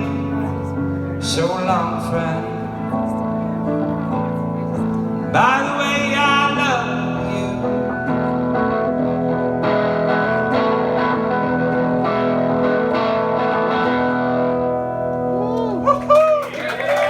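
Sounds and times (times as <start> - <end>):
distorted electric guitar chords: 0.0 - 15.9.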